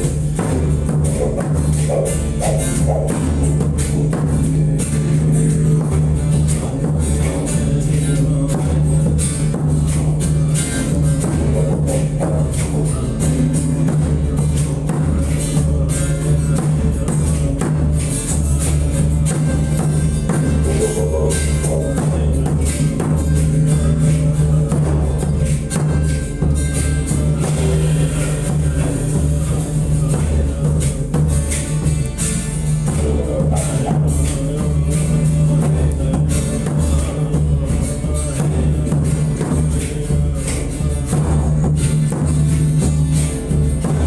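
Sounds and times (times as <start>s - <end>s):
didgeridoo drone: 0.0s - 44.0s
hand drum rhythm: 0.0s - 44.0s
sharp higher percussion strokes: 0.0s - 44.0s.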